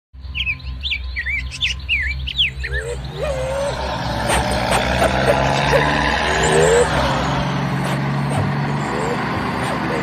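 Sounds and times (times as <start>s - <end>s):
birds chirping: 0.2s - 10.0s.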